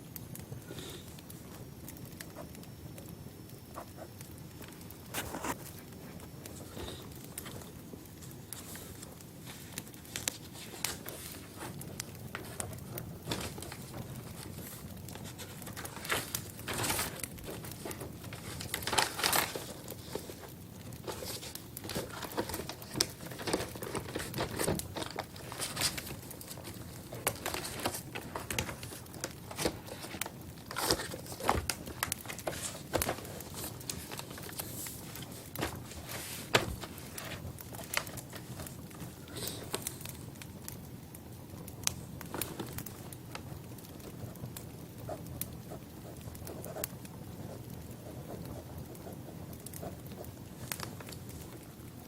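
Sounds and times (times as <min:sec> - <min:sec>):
crinkling and crackling: 0:00.0 - 0:52.0
soft hiss: 0:00.0 - 0:52.0.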